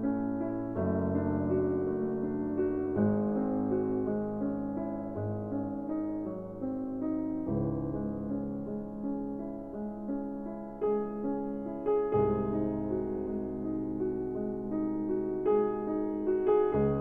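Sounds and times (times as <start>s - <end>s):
soft piano piece: 0.0s - 17.0s.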